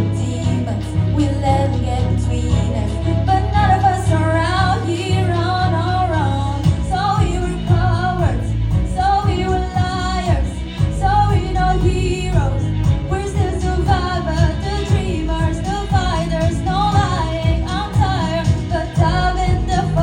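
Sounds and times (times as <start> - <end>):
pop song: 0.0 - 20.0
pulsing bass: 0.0 - 20.0
woman singing: 0.0 - 20.0.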